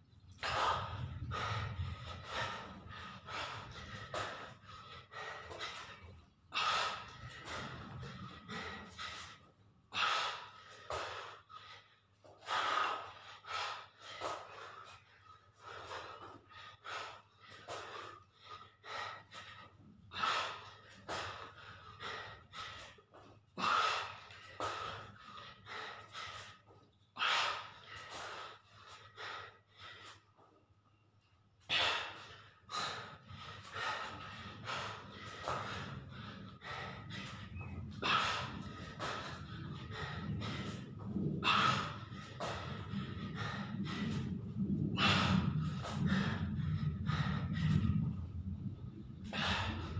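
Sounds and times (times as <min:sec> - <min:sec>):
man breathing hard: 0:00.3 - 0:49.9.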